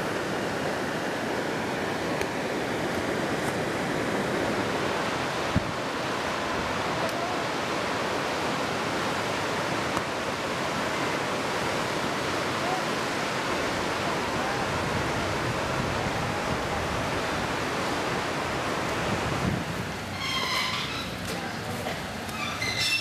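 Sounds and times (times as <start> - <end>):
ocean surf breaking: 0.0 - 23.0.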